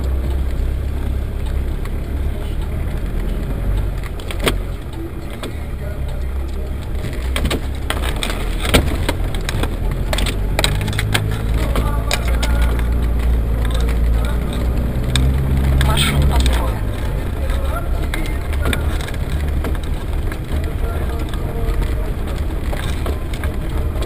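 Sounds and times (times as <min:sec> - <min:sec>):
engine and drivetrain rumble: 0:00.0 - 0:24.0
knocks and rattles over rough ground: 0:00.0 - 0:24.0.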